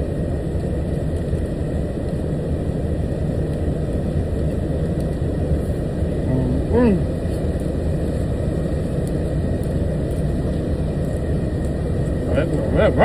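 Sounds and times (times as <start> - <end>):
truck engine rumble: 0.1 - 13.0.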